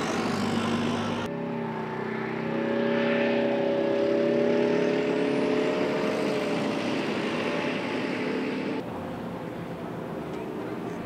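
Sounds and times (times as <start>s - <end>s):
diesel vehicle driving past: 0.0s - 11.0s
tyre and road noise: 0.0s - 11.0s.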